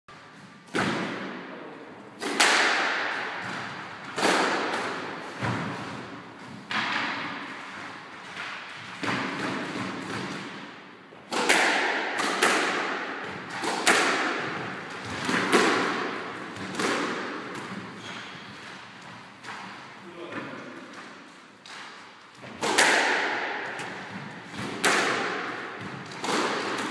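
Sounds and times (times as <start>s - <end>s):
squash ball hits echoing: 0.4s - 1.5s, 2.1s - 26.9s.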